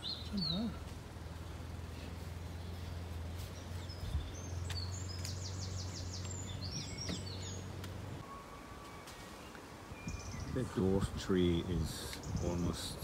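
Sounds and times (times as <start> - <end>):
small bird singing: 0.0 - 13.0.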